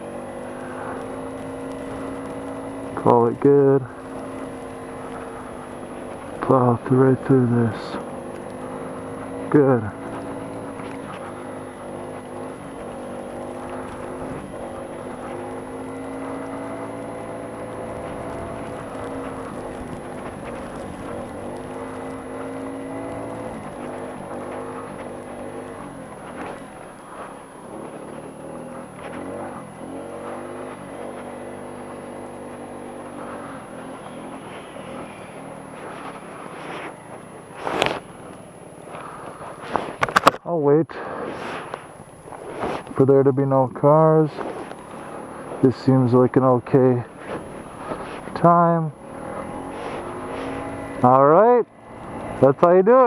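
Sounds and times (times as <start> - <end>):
scooter engine running: 0.0 - 53.0.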